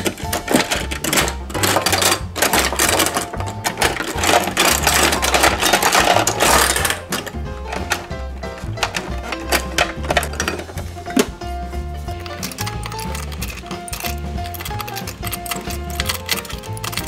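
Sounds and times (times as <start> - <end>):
background music with bass: 0.0 - 17.0
plastic toys clattering: 0.0 - 17.0.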